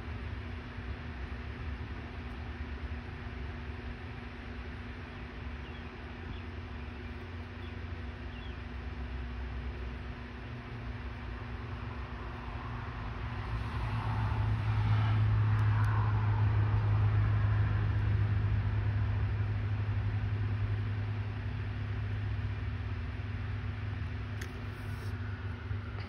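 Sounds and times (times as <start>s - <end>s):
vehicle engine and road hum: 0.0s - 26.0s.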